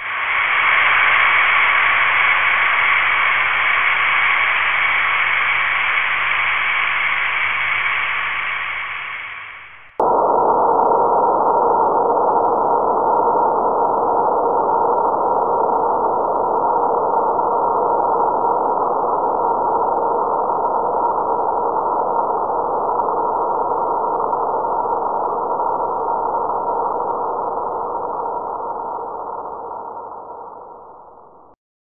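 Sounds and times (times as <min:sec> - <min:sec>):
spaceship engine drone: 0:00.0 - 0:31.6.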